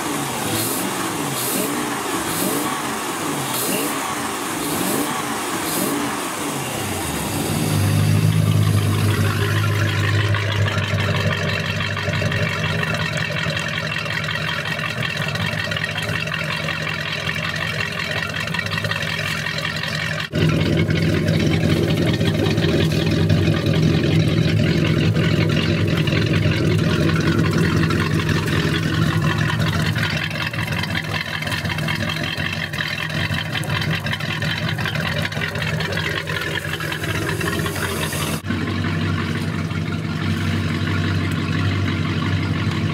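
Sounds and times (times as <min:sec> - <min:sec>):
boat engine idling: 0:06.3 - 0:42.9.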